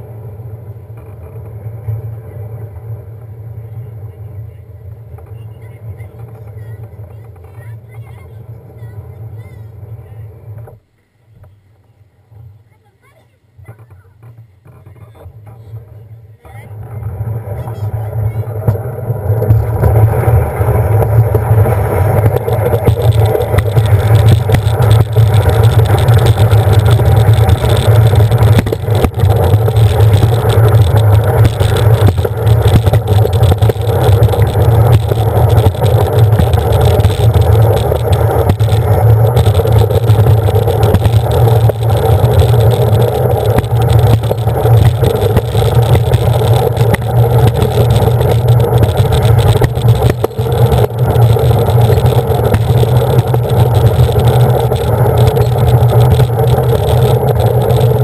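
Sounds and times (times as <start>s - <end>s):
sled wheels rumbling on track: 0.0s - 10.8s, 11.4s - 58.0s.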